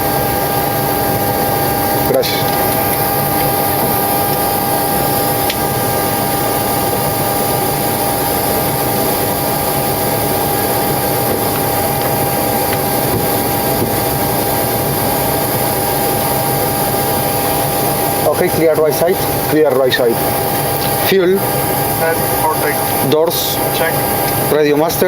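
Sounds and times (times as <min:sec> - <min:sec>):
jet engines idling: 0:00.0 - 0:25.0.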